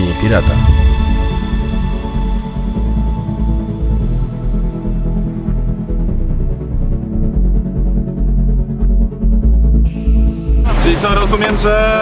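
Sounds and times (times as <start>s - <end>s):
pulsing low bass: 0.0s - 10.6s.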